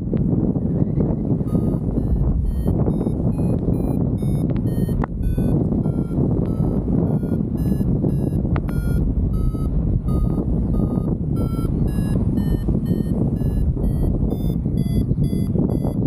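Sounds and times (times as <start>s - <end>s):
wind rushing over microphone: 0.0s - 16.0s
variometer beeping in short pulses: 1.4s - 16.0s.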